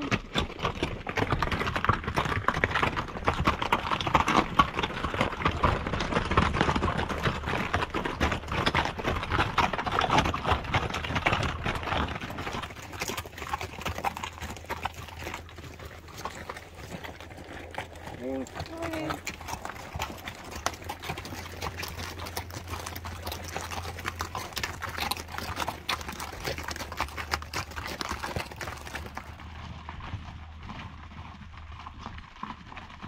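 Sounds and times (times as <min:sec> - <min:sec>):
hooves clip-clopping: 0:00.0 - 0:33.0.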